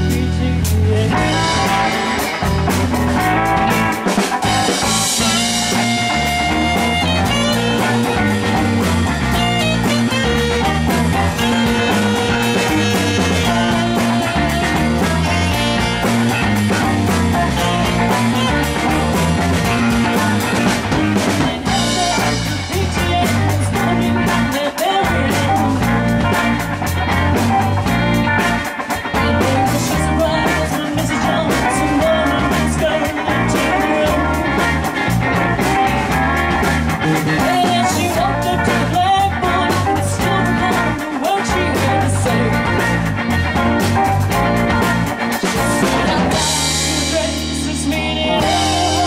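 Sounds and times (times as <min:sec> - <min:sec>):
bass guitar: 0:00.0 - 0:49.0
drum kit: 0:00.0 - 0:49.0
electric guitars: 0:00.0 - 0:49.0
saxophone lead: 0:01.0 - 0:49.0.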